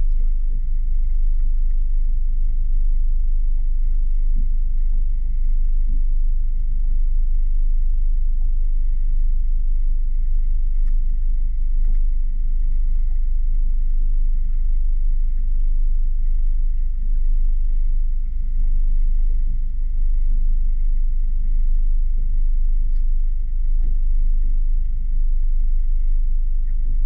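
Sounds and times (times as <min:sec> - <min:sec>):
faint steady high tone: 0:00.0 - 0:27.0.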